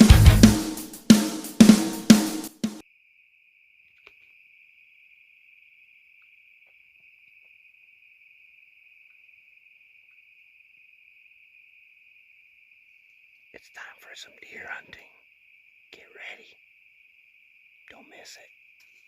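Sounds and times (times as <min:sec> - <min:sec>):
crickets trilling: 0:02.8 - 0:19.0.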